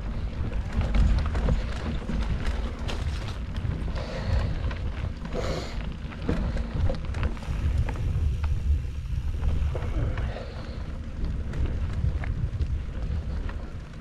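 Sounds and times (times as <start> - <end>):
bike rattling and clicking: 0.0 - 14.0
tyres rolling over dirt: 0.0 - 14.0
wind rumble on microphone: 0.0 - 14.0.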